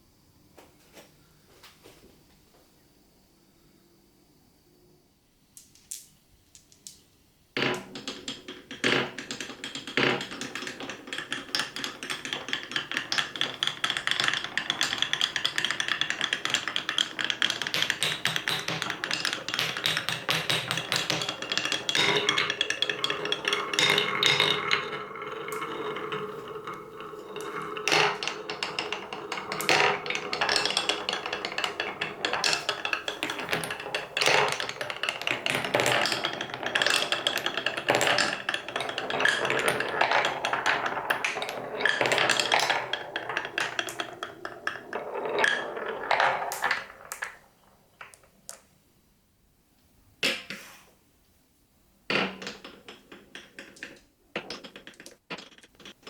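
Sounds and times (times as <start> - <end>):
balls clattering down wooden run: 7.6 - 48.7, 52.1 - 56.0.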